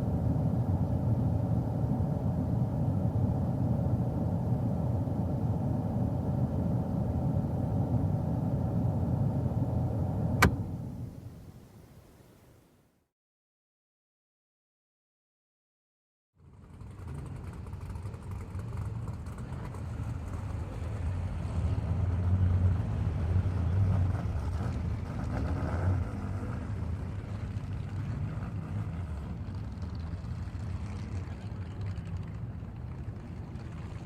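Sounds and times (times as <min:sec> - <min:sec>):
car engine rumbling: 0:00.0 - 0:12.7, 0:16.6 - 0:34.0.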